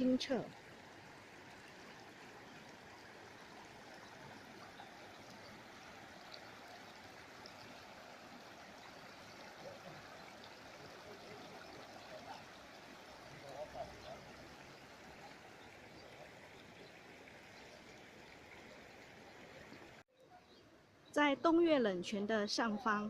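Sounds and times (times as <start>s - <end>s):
spring water flowing: 0.0s - 20.0s.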